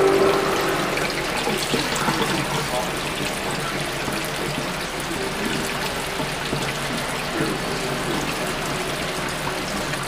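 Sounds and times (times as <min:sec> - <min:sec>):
water running into steel sink: 0:00.0 - 0:10.0.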